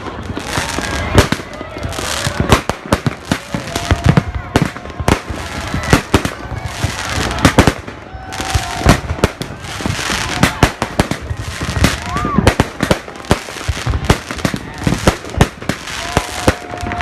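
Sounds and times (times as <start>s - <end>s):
crowd voices: 0.0s - 17.0s
fireworks bangs: 0.0s - 17.0s
fireworks crackling: 0.0s - 17.0s.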